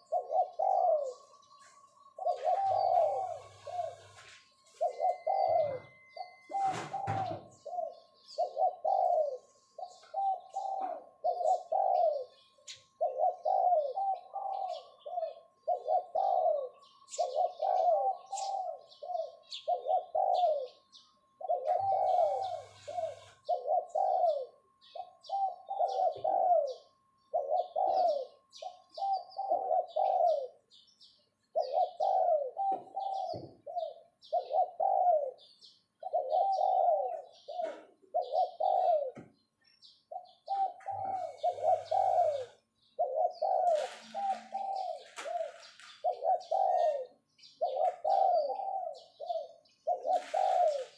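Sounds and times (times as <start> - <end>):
dove cooing: 0.0 - 39.4, 40.1 - 50.9
small birds chirping: 0.0 - 50.9.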